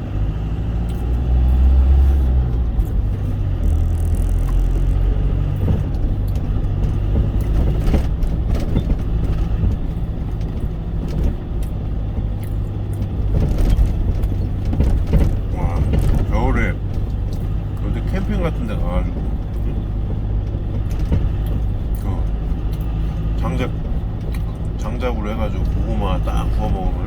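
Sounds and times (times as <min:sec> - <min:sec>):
road noise: 0:00.0 - 0:27.0
truck engine drone: 0:00.0 - 0:27.0.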